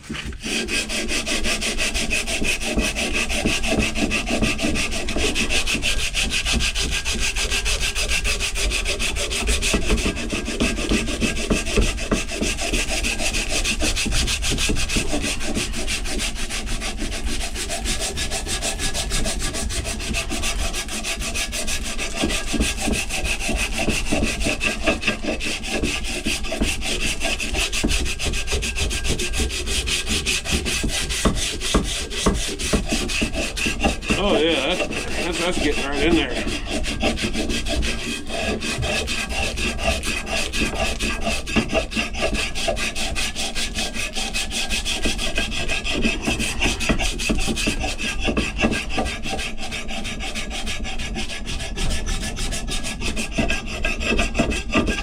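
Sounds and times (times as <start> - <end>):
abrasive scrubbing on steel: 0.0 - 55.0.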